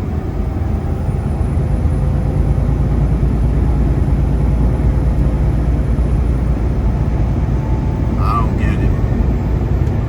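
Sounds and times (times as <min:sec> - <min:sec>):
truck diesel engine drone: 0:00.0 - 0:10.0.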